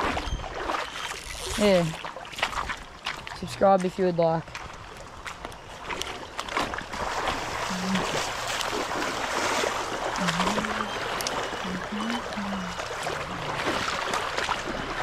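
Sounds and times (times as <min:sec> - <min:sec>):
creek flowing over rocks: 0:01.2 - 0:15.0.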